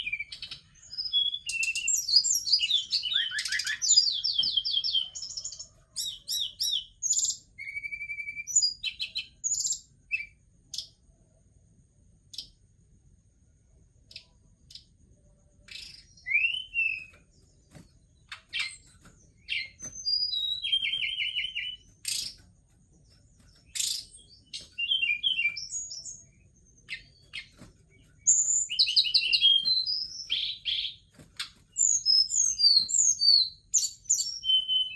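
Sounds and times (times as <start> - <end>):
songbird chirping and trilling: 0.0 - 11.4, 12.2 - 12.9, 13.5 - 34.9.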